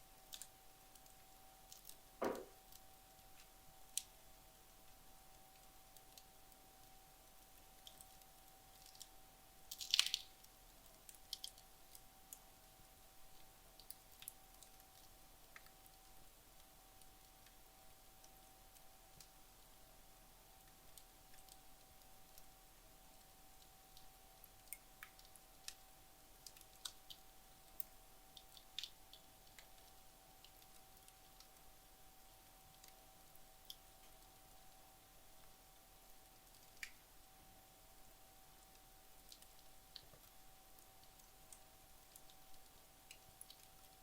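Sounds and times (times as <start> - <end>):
faint steady hum: 0.0 - 44.0
fire crackling and popping: 0.1 - 44.0.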